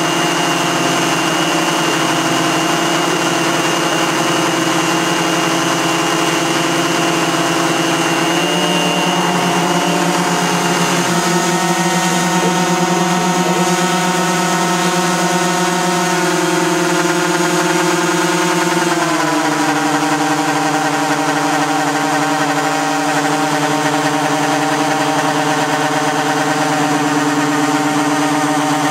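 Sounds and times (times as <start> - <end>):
model plane piston engines running: 0.0 - 28.9.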